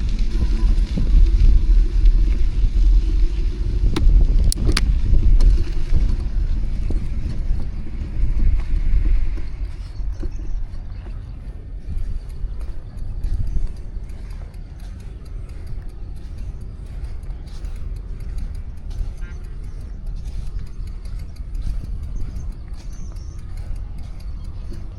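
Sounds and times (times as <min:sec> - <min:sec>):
street traffic: 0:00.0 - 0:24.9
wind buffeting microphone: 0:00.0 - 0:24.9
sharp clicks: 0:03.9 - 0:24.9.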